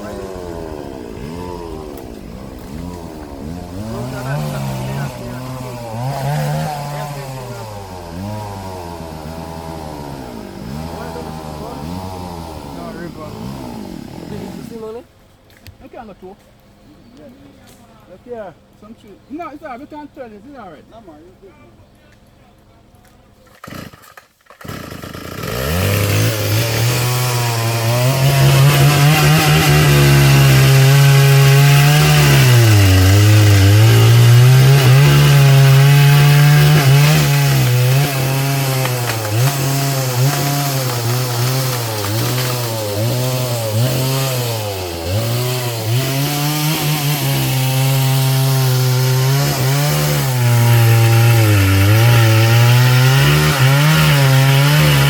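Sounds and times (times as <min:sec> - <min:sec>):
chainsaw cutting wood: 0:00.0 - 0:15.8, 0:22.2 - 0:55.0.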